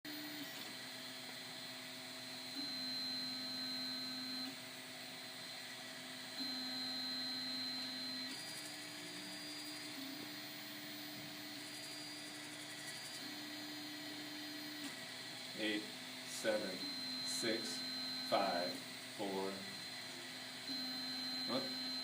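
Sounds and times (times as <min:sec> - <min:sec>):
printer stepper motors whining: 0:00.1 - 0:22.0.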